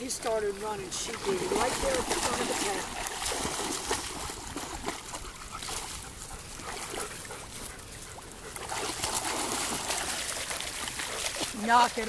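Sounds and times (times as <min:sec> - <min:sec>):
dogs splashing in water: 0:00.0 - 0:12.0.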